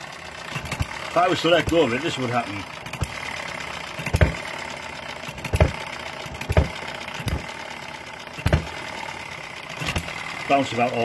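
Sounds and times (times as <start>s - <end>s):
engine bouncing on base: 0.0s - 11.0s
flywheels turning: 0.4s - 11.0s
small engine firing beats: 0.5s - 10.8s.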